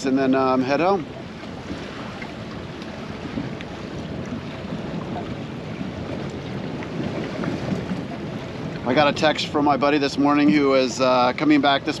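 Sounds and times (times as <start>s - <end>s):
waves lapping against boat hull: 0.0s - 12.0s
wind noise on microphone: 0.0s - 12.0s.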